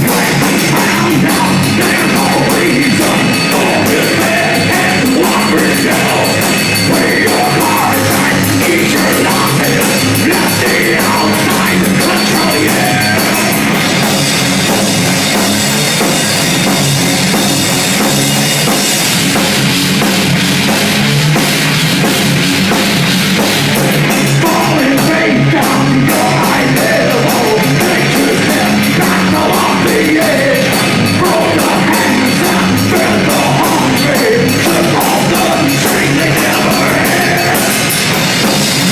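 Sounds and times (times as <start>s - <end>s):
drum kit: 0.0s - 38.9s
heavy metal band playing live: 0.0s - 38.9s.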